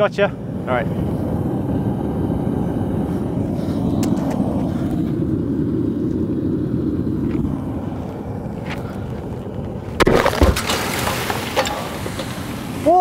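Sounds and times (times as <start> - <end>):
burner roaring: 0.0 - 13.0.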